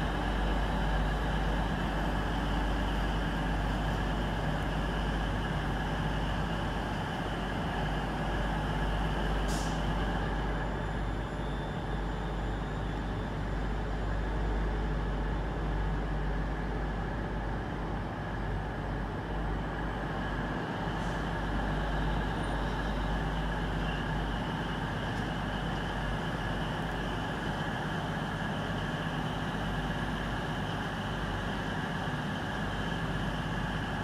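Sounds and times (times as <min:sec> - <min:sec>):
diesel train idling rumble: 0:00.0 - 0:34.0.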